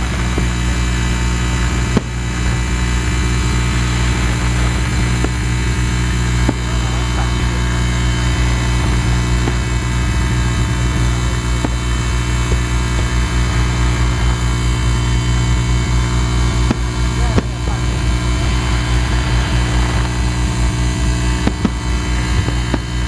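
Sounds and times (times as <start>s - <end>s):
fireworks popping: 0.0s - 23.0s
low droning rumble: 0.0s - 23.0s.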